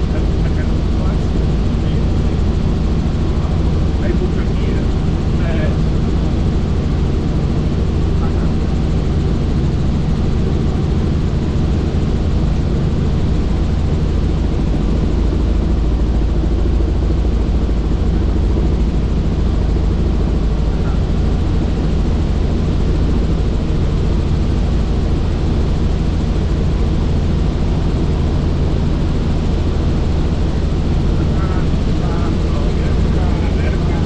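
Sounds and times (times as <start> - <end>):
helicopter drone: 0.0 - 34.0.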